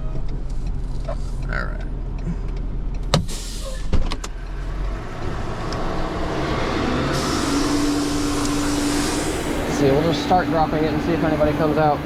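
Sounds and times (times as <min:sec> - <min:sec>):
tow truck engine running: 0:00.0 - 0:12.0.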